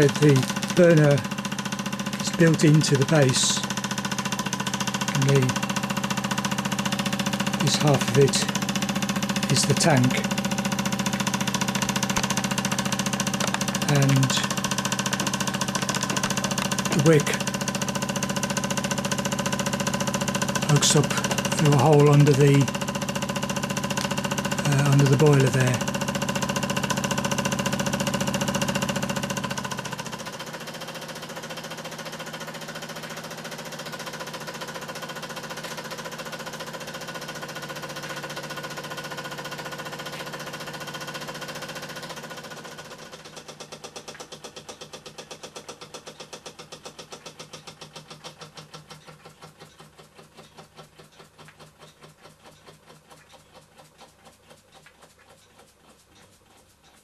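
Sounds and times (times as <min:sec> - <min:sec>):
toy steam engine running: 0:00.0 - 0:57.0.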